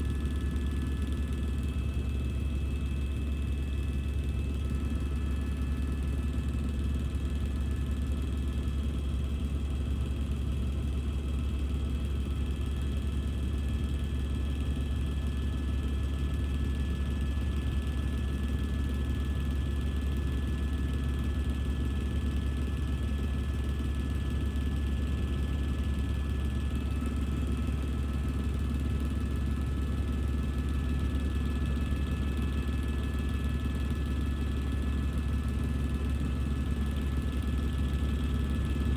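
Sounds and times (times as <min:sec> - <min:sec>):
helicopter rotor rumble: 0:00.0 - 0:38.9.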